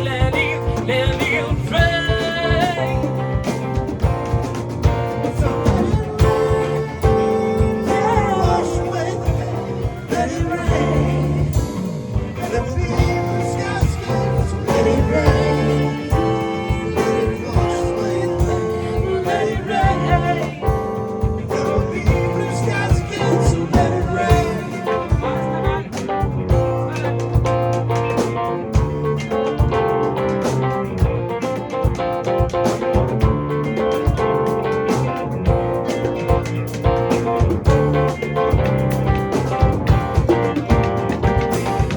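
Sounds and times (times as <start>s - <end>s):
guitar-led blues-rock band music: 0.0s - 41.9s.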